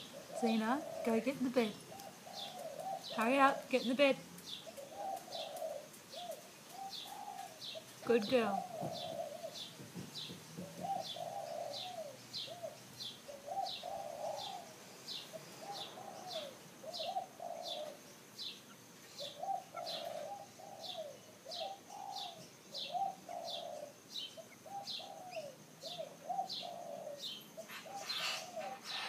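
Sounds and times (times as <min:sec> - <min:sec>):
cooing bird notes: 0:00.0 - 0:29.0.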